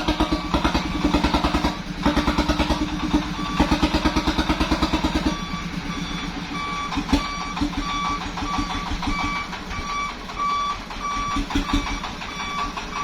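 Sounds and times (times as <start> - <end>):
engine running: 0.0 - 13.0
reversing alarm beeping: 0.0 - 13.0.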